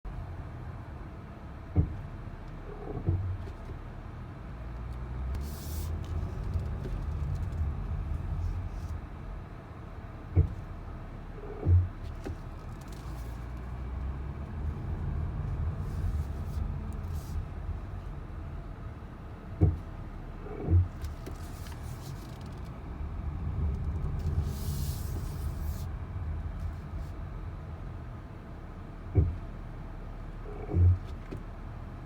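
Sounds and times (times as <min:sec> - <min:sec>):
low brake rumble: 0:05.2 - 0:31.0.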